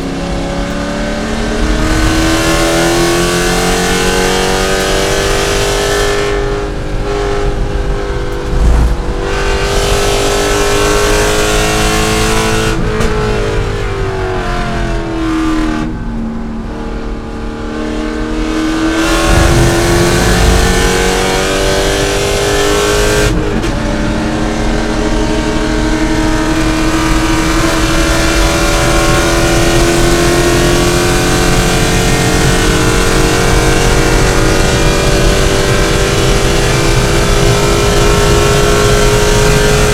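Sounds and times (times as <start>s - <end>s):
racing car engine: 0.0s - 13.1s, 13.7s - 39.9s.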